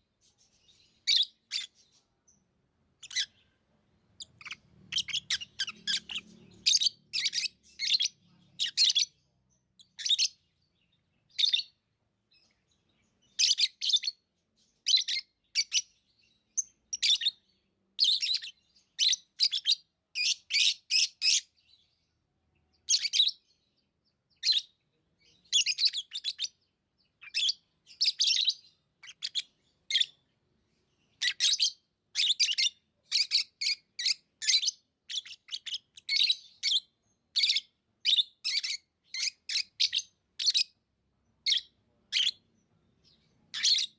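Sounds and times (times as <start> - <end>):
lovebirds chirping: 0.0 - 43.9.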